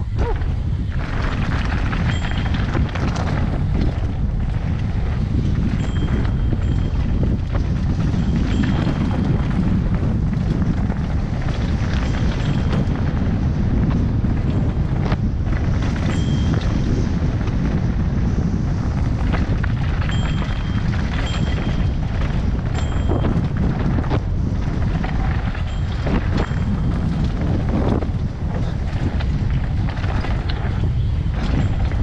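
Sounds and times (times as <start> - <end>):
rocks and bike rattling: 0.0 - 32.0
wind buffeting microphone: 0.0 - 32.0.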